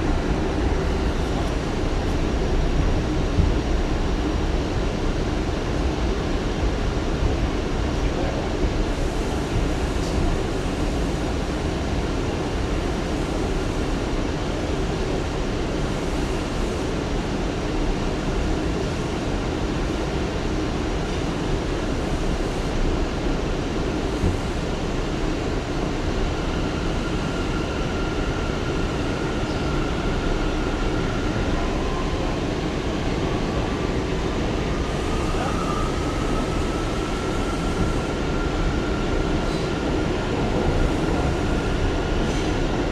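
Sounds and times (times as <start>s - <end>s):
subway wheels rumbling: 0.0s - 42.9s.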